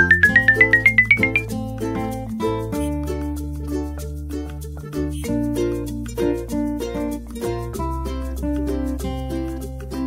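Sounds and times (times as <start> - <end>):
bouncy plucked string tune: 0.0 - 10.0
sustained bass: 0.0 - 10.0.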